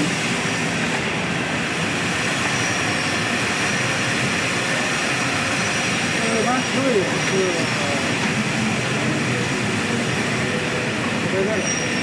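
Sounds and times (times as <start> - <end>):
drilling-milling machine running: 0.0 - 12.0
high spindle whine: 0.0 - 12.0.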